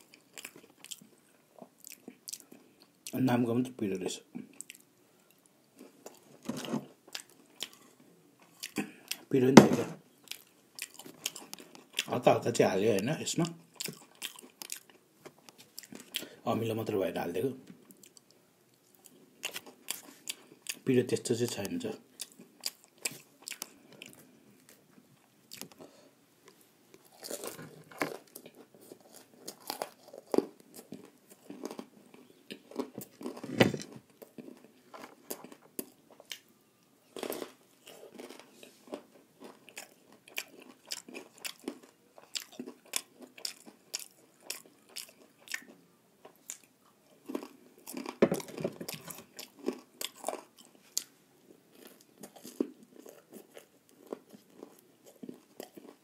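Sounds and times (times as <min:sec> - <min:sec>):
chewing crunchy snack: 0:00.0 - 0:03.2, 0:04.4 - 0:09.3, 0:10.2 - 0:12.2, 0:13.4 - 0:16.4, 0:17.9 - 0:20.9, 0:21.5 - 0:26.0, 0:27.0 - 0:56.0.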